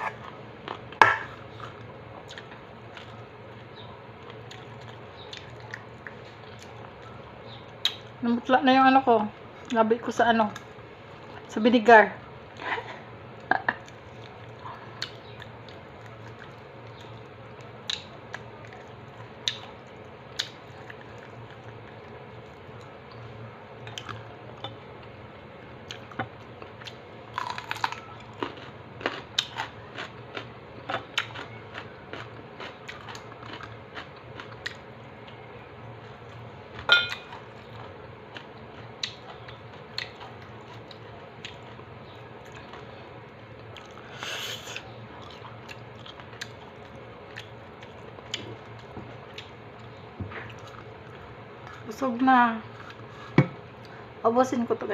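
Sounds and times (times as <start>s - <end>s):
crunchy food being chewed: 0.0s - 8.1s, 13.7s - 25.2s, 25.8s - 51.9s.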